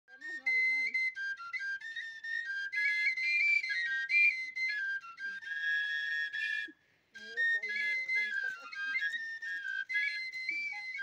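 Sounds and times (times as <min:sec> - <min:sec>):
flutes playing high melody: 0:00.1 - 0:11.0.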